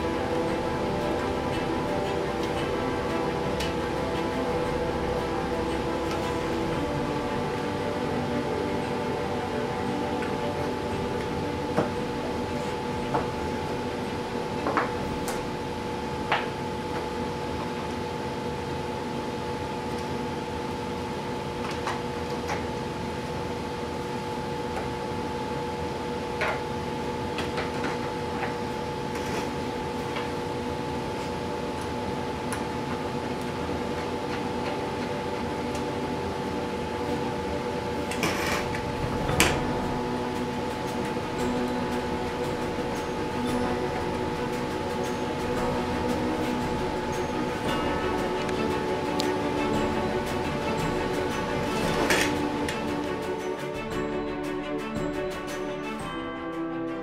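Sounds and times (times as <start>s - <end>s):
machine humming: 0.0s - 57.0s.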